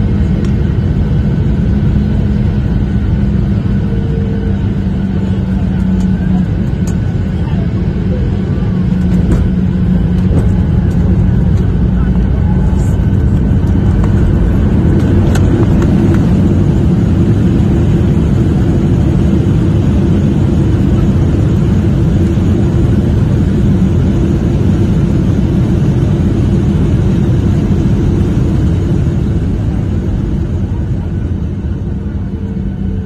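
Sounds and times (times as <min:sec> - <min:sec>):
jet airliner cabin rumble: 0:00.0 - 0:33.0.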